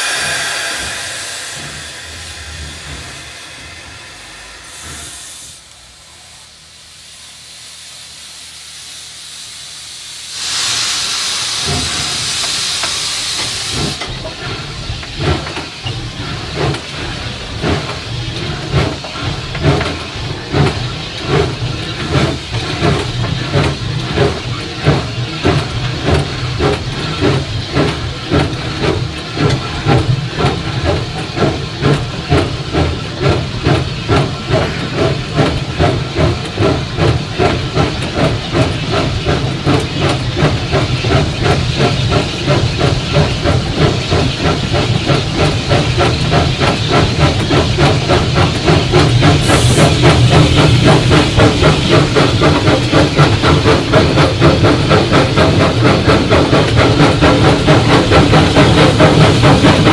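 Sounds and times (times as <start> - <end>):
steam hissing: 0.0 - 59.9
steam locomotive chuffing: 0.0 - 59.9.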